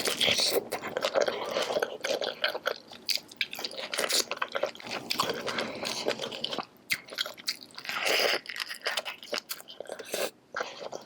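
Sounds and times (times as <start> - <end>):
person chewing wet food: 0.0 - 11.0.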